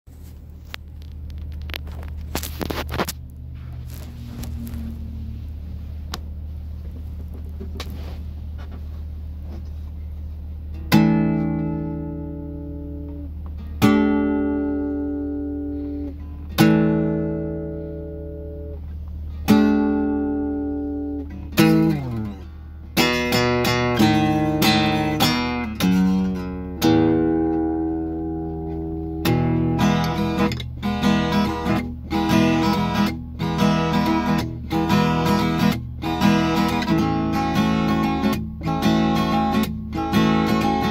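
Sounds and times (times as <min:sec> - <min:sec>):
acoustic guitar strumming: 0:01.6 - 0:08.2, 0:10.7 - 0:40.9.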